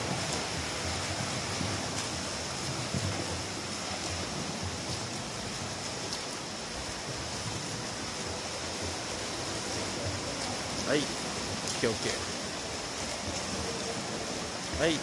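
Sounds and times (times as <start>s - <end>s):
swimmers splashing in a pool: 0.0s - 15.0s.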